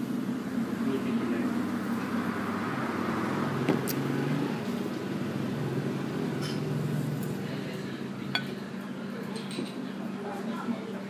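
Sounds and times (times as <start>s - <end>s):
street noise: 0.0s - 10.2s.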